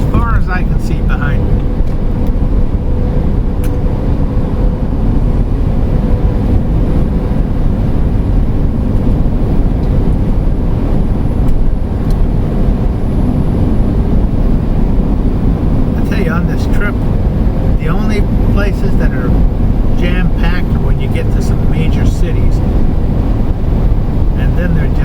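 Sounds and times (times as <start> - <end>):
road and engine rumble inside van: 0.0 - 25.0.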